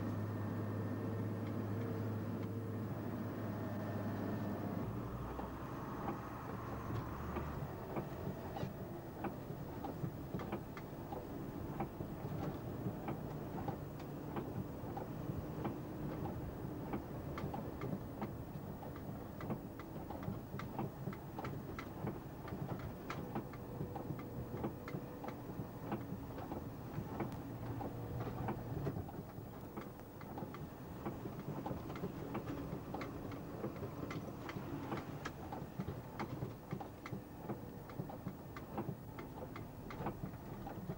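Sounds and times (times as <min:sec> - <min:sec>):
lorry engine from inside cab: 0:00.0 - 0:40.9.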